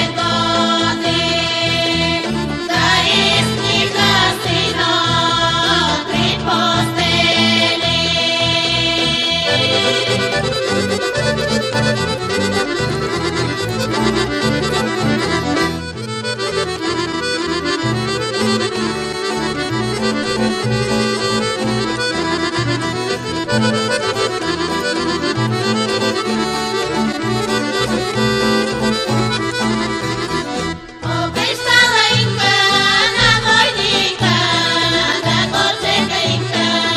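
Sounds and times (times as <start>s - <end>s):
folk dance music with accordion: 0.0s - 36.9s.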